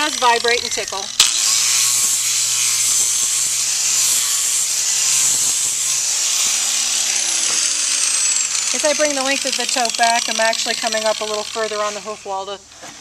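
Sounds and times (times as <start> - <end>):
grinder sanding hoof: 0.0 - 12.6
motor low hum: 0.0 - 12.8.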